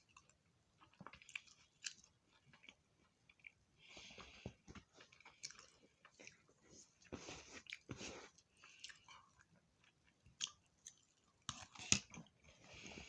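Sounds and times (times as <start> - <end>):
chewing with wet mouth smacks: 0.0 - 12.4.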